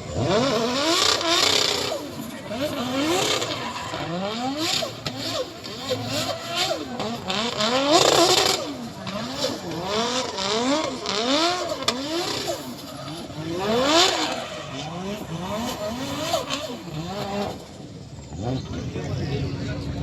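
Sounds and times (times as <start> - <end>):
vehicle engines revving: 0.0 - 20.0.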